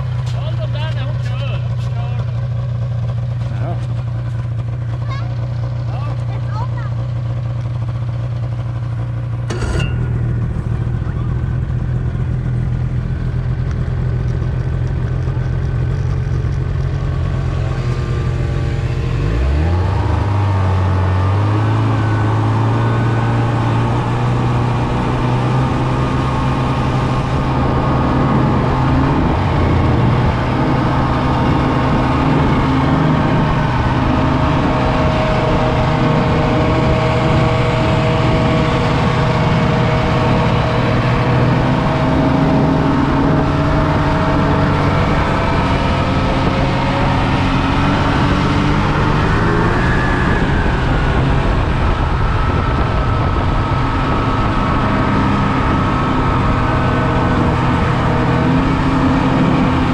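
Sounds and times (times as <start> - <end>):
snowmobile engines revving: 0.0 - 2.4, 9.4 - 59.9.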